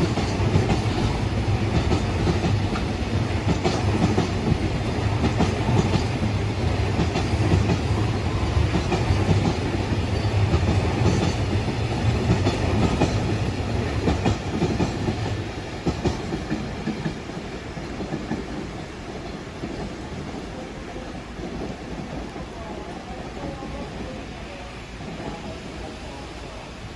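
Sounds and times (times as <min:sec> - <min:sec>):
train wheels clattering: 0:00.0 - 0:24.2.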